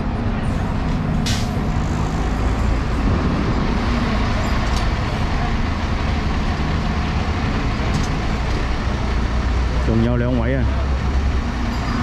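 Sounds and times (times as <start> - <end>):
diesel engine idling: 0.0 - 12.0
street traffic: 0.0 - 12.0.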